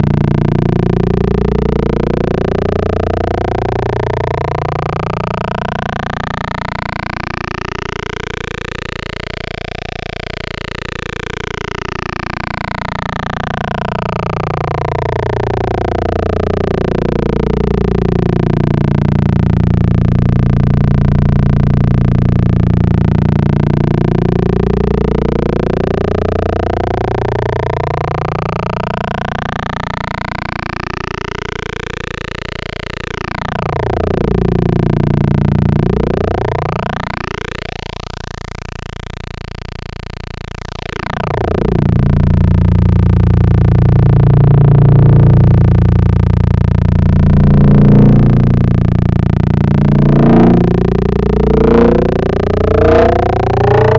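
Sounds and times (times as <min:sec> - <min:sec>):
buzzy synthesizer note sweeping: 0:00.0 - 0:53.9.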